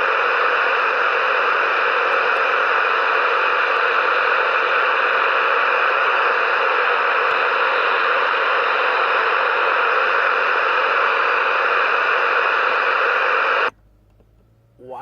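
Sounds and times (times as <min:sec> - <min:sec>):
radio static hiss: 0:00.0 - 0:13.7.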